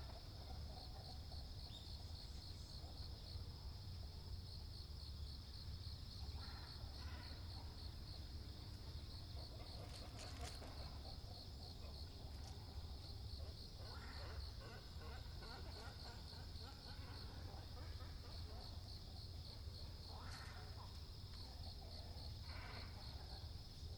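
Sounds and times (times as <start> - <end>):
faint low outdoor rumble: 0.0 - 23.9
insect chirping trill: 0.0 - 23.9.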